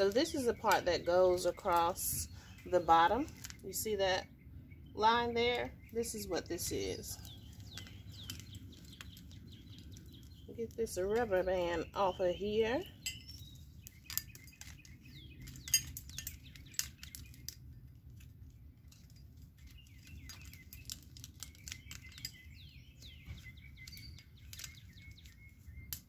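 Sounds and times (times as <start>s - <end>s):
bird chirps: 0.0s - 17.8s, 19.6s - 26.0s.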